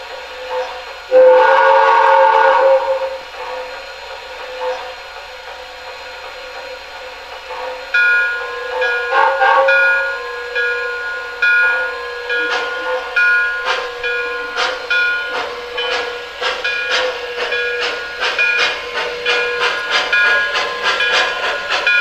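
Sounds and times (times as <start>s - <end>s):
locomotive standing background sounds: 0.0s - 22.0s
model steam locomotive whistle: 0.0s - 22.0s.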